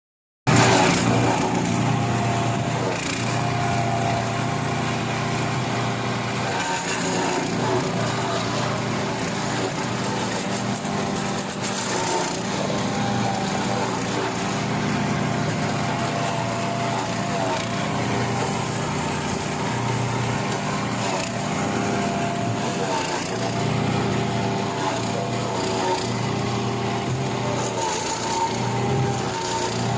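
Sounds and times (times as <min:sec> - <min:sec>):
wood chipper running: 0:00.5 - 0:29.9.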